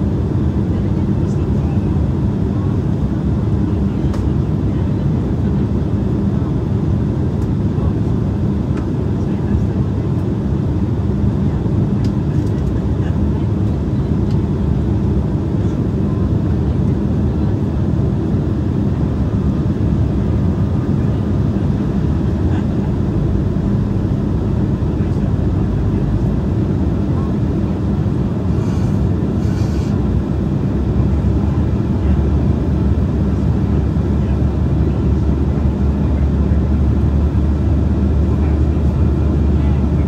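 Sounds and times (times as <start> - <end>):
airliner cabin engine drone: 0.0 - 40.0.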